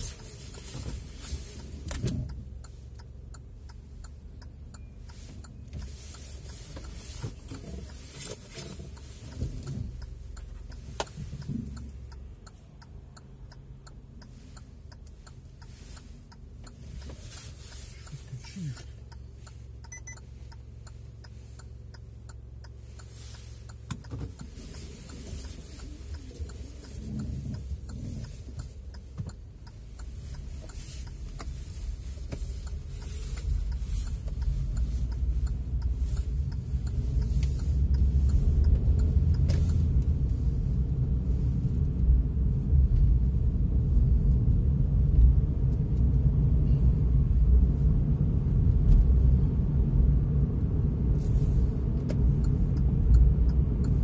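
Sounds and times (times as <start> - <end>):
light ticks and clicks: 0.0 - 47.2, 48.3 - 54.0
car engine and road rumble: 0.0 - 54.0.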